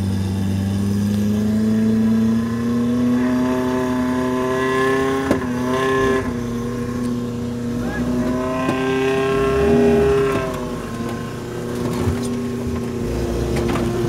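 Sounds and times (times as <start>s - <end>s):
engine at high revs: 0.0s - 14.0s.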